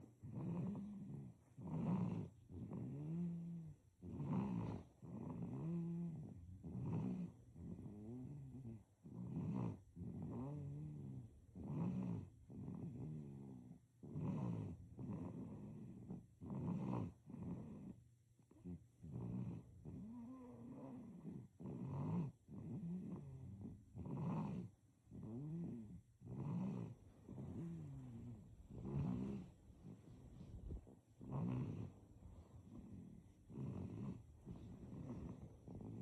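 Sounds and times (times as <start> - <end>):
baby snoring: 0.2 - 18.0, 18.6 - 32.0, 32.6 - 36.0.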